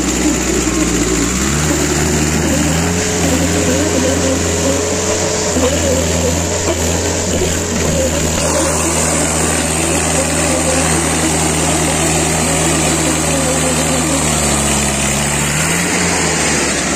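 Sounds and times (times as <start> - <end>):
tractor diesel engines droning: 0.0 - 16.9.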